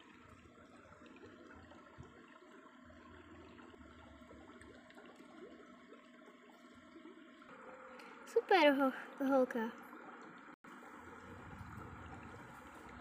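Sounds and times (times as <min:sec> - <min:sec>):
stream trickling over stones: 0:00.0 - 0:13.0.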